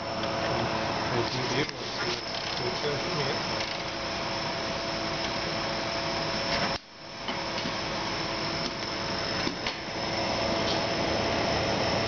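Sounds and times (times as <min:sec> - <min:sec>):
machine hum and whir: 0:00.0 - 0:12.0.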